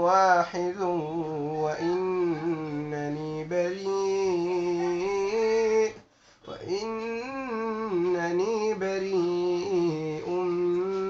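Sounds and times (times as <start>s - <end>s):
person reciting melodically: 0.0s - 11.0s.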